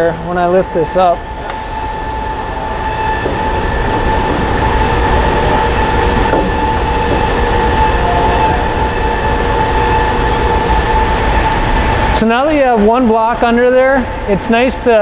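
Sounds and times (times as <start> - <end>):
high whining tones: 0.0 - 14.4
shop machinery drone: 0.0 - 15.0.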